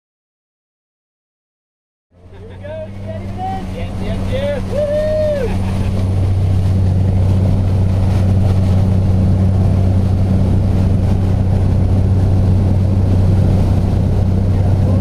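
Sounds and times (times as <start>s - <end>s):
propeller airplane engine drone: 2.1s - 15.0s
rushing air: 2.3s - 15.0s.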